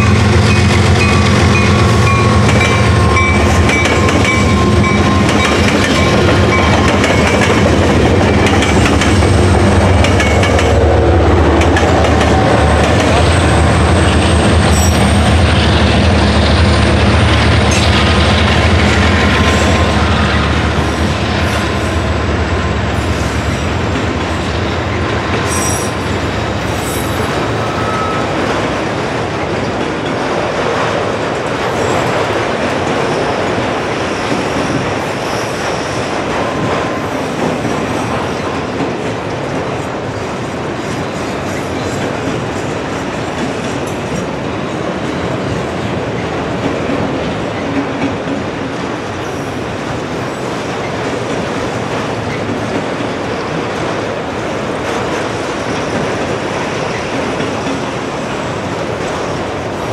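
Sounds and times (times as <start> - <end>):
diesel locomotive drone: 0.0 - 59.9
freight train wheels rumbling: 0.0 - 59.9.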